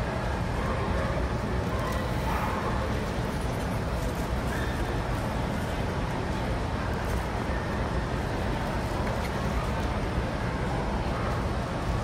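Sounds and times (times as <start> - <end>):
crowded hall background din: 0.0 - 12.0.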